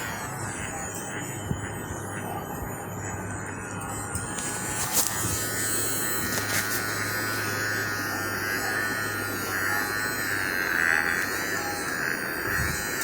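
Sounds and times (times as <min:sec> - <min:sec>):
electric massager motor buzzing: 0:00.0 - 0:13.0.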